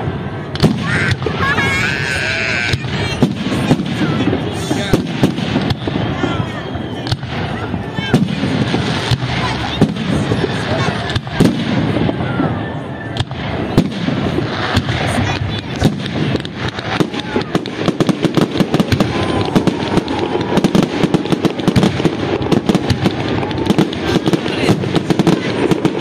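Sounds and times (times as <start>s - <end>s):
fireworks bursting: 0.0s - 26.0s
fireworks crackling: 0.0s - 26.0s.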